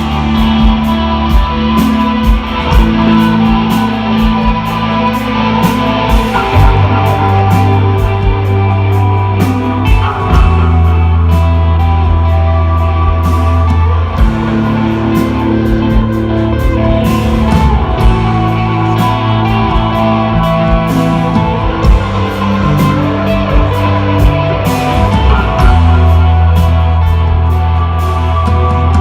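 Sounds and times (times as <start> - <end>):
bass notes: 0.0 - 29.0
drums and cymbals: 0.0 - 29.0
electric guitar: 0.0 - 29.0.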